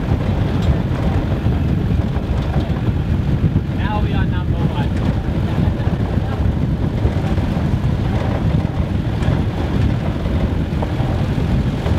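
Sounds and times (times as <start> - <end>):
vehicle rumbling on dirt track: 0.0 - 11.9
wind buffeting microphone: 0.0 - 11.9.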